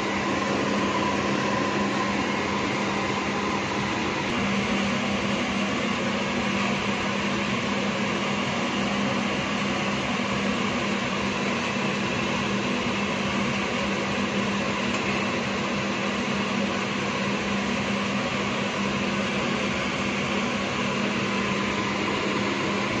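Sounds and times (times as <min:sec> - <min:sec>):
appliance fan motor whirring: 0:00.0 - 0:23.0.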